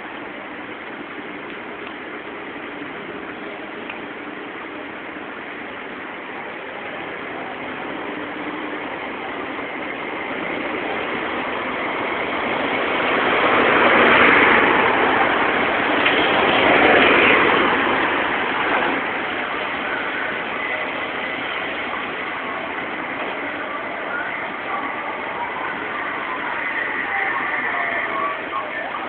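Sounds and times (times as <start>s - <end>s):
cars and trucks driving past: 0.0s - 29.0s.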